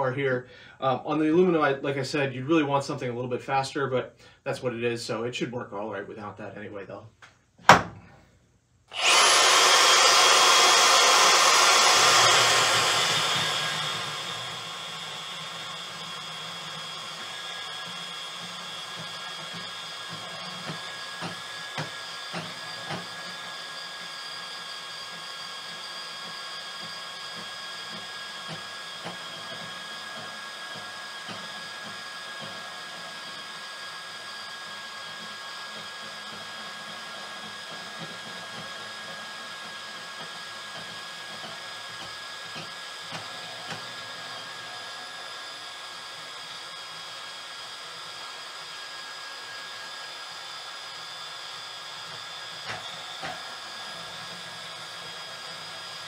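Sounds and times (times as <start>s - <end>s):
bandsaw cutting metal whine: 8.9s - 56.0s.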